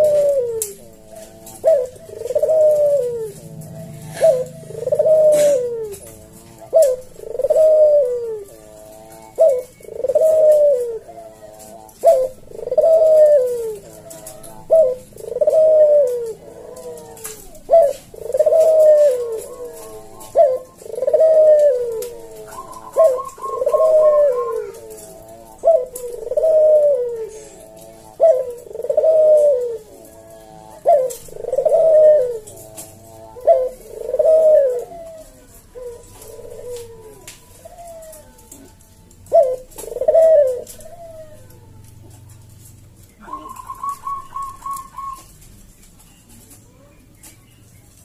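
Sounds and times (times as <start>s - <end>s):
dove cooing: 0.0s - 48.0s.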